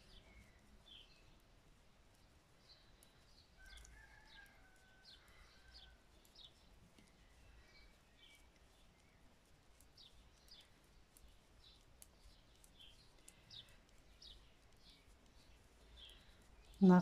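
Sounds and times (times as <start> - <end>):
faint birds chirping: 0.0 - 17.0
knitting needles ticking: 0.0 - 17.0.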